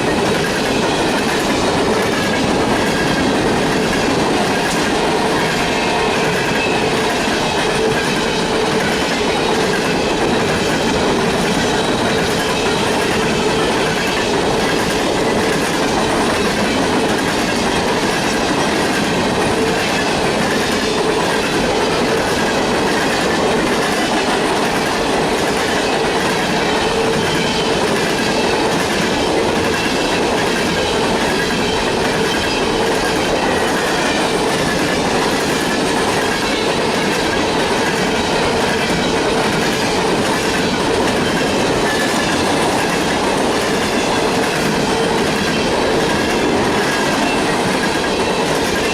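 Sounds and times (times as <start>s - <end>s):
freight train wheels rumbling: 0.0s - 48.9s
wheels clacking over rail joints: 0.0s - 48.9s.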